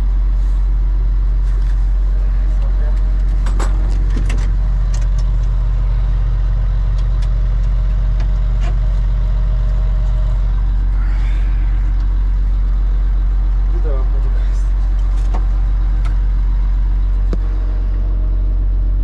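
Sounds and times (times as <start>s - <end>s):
heavy vehicle engine idling: 0.0s - 19.0s.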